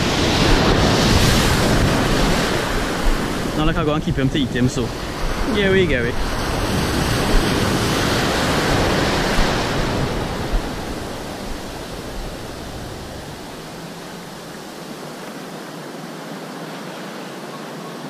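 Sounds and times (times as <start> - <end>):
surf washing through shallows: 0.0 - 18.0.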